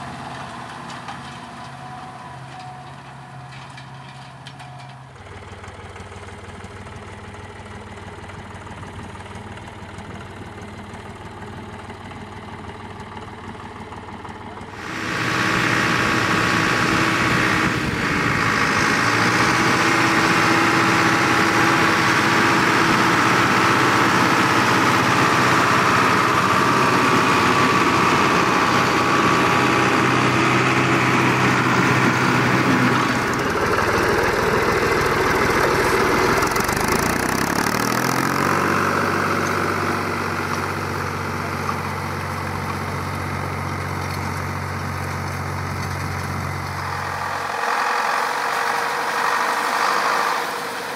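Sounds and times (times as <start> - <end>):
manure spreader beaters clattering: 0.0 - 5.7, 14.6 - 50.9
tractor diesel engine: 0.0 - 50.9.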